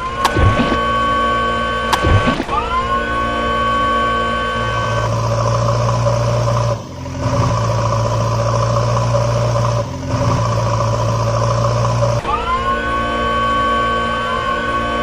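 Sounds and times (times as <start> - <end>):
motor running: 0.0 - 15.0.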